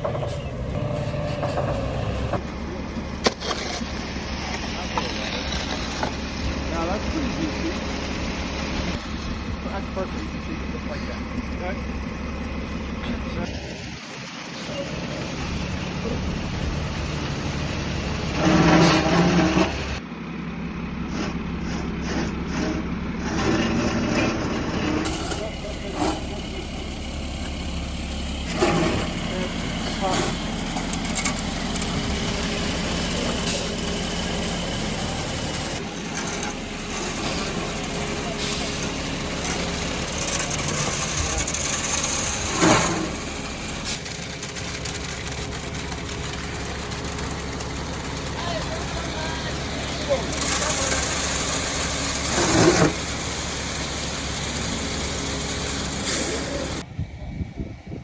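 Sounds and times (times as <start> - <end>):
truck engine running: 0.0 - 58.0
concrete pouring: 1.8 - 20.0, 21.1 - 56.9.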